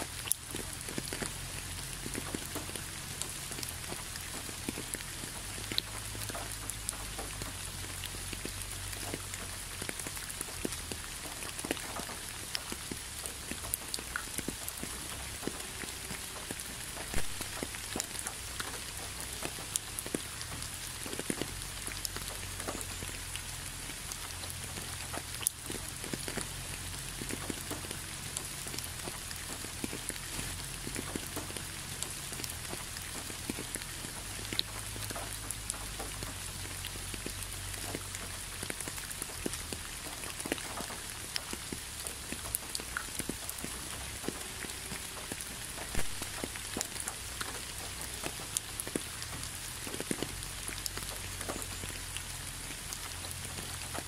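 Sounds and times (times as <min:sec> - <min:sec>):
rain on concrete: 0:00.0 - 0:54.0.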